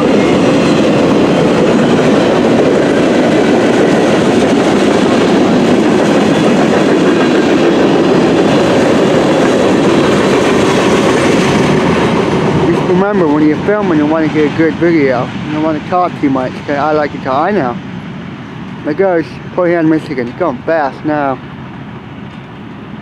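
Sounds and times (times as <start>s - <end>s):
train wheels rumbling and rattling: 0.0s - 23.0s.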